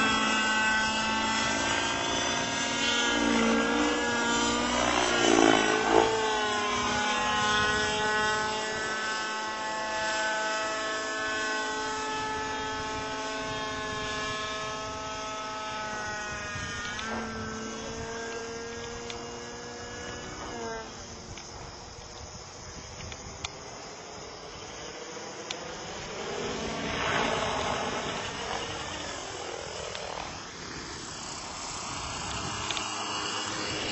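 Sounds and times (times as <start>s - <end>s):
model helicopter engine and rotor: 0.0s - 33.9s.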